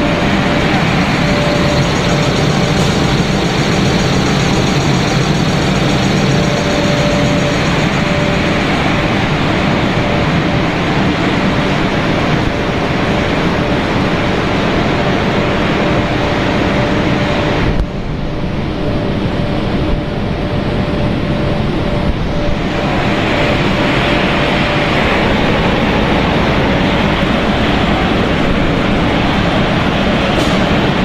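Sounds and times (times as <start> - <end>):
faint hum tone: 0.0 - 31.0
machinery droning: 0.0 - 31.0.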